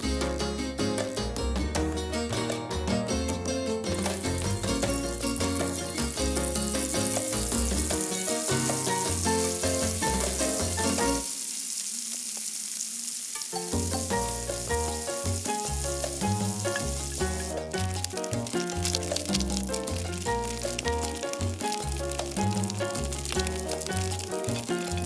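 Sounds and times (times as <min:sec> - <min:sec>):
background music: 0:00.0 - 0:11.3, 0:13.6 - 0:25.0
fish deep-frying in hot oil: 0:03.9 - 0:25.0.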